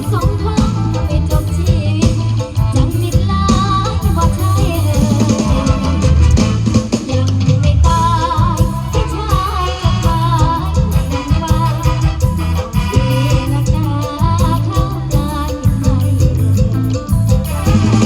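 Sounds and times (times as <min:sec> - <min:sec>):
drum kit and bass beat: 0:00.0 - 0:18.0
live band music: 0:00.0 - 0:18.0.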